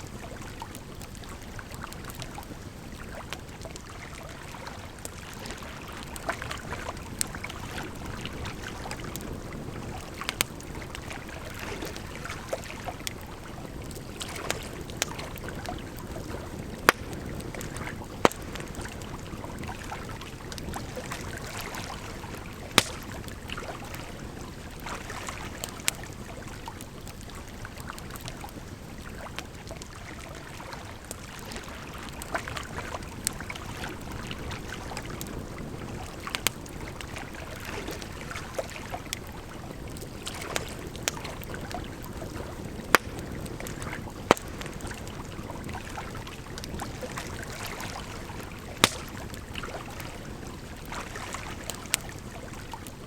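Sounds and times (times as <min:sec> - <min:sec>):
flowing water: 0:00.0 - 0:53.0
campfire crackling and popping: 0:00.1 - 0:53.0.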